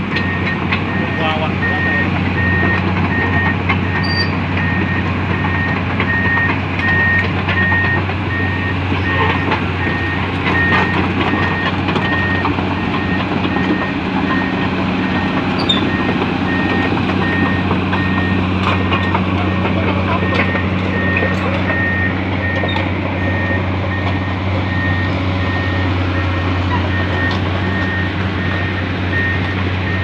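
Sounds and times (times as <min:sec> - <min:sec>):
excavator diesel engine running: 0:00.0 - 0:30.0
travel alarm beeping: 0:00.1 - 0:30.0.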